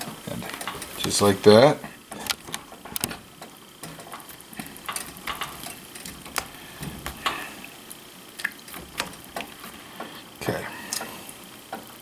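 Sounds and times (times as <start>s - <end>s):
butter sizzling in a skillet: 0.0s - 12.0s.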